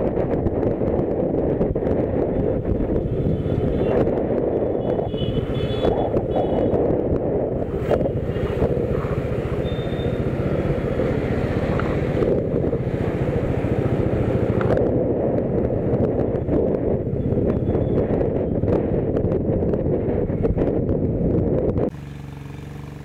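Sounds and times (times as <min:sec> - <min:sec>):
wind buffeting microphone: 0:00.0 - 0:22.0
vehicle moving along road: 0:00.0 - 0:23.0.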